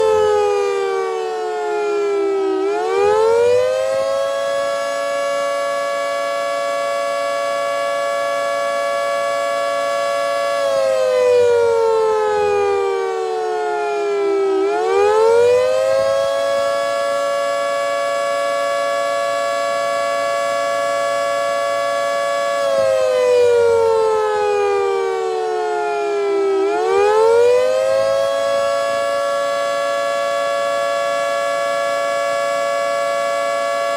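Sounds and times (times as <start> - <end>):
warning siren slow wail: 0.0 - 33.9.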